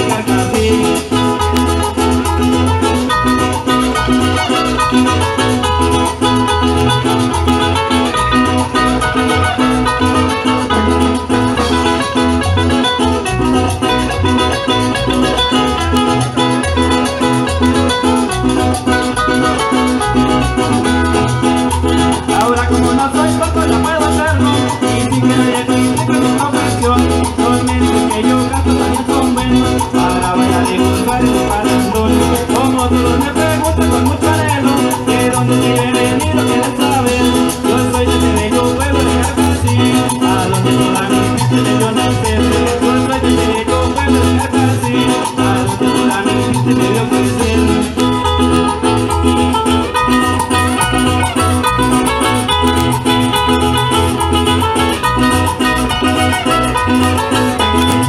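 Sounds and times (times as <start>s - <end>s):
acoustic guitars strumming: 0.0s - 58.0s.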